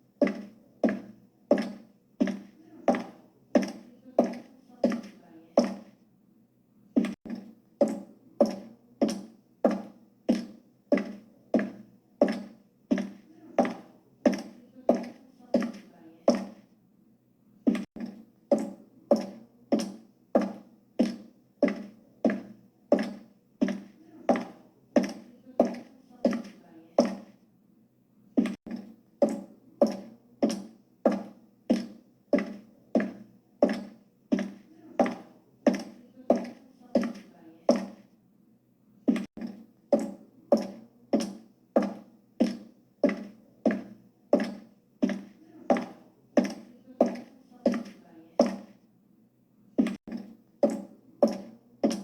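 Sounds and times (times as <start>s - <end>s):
high heels clicking: 0.2s - 6.0s, 7.0s - 16.6s, 17.7s - 27.3s, 28.4s - 38.1s, 39.1s - 48.8s, 49.8s - 52.0s.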